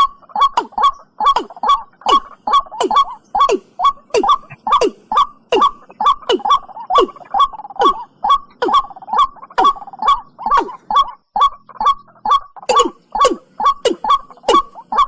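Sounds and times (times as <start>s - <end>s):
watercock calling: 0.0s - 15.0s.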